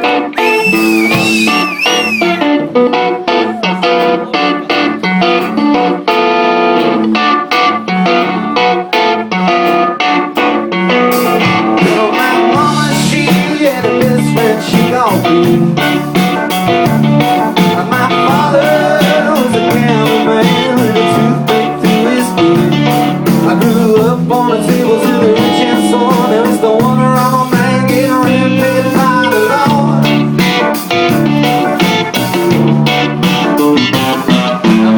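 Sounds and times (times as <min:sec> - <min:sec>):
strummed guitar: 0:00.0 - 0:34.9.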